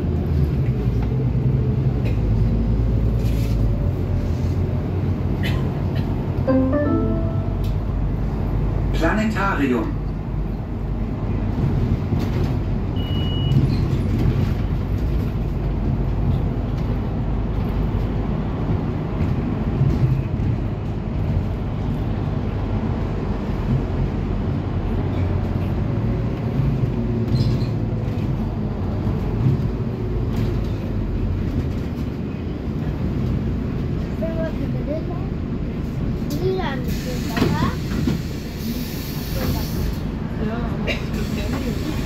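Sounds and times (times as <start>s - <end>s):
bus engine and road rumble: 0.0s - 42.0s.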